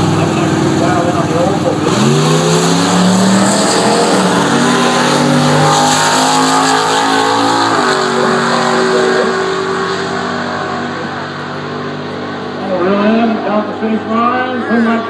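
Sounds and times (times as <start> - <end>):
drag racing engines at full throttle: 0.0 - 15.0.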